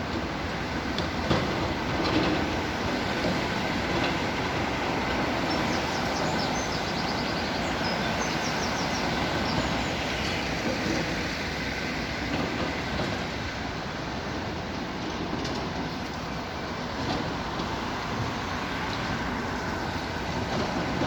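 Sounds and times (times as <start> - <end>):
train rumbling along tracks: 0.0 - 21.0.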